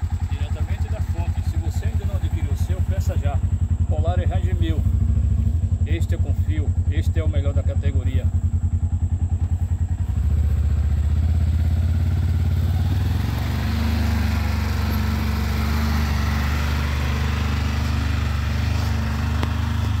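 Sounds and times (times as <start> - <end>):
utility vehicle engine running: 0.0 - 20.0.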